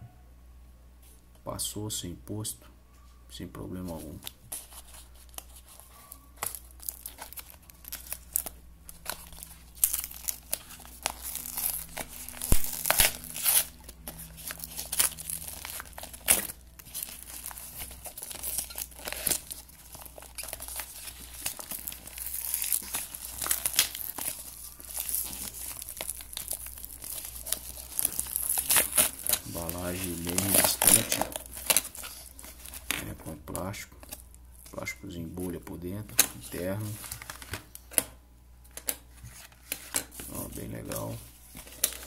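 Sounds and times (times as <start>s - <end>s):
padded envelope crinkling and tearing: 3.9s - 34.8s, 36.2s - 37.8s, 38.8s - 42.0s.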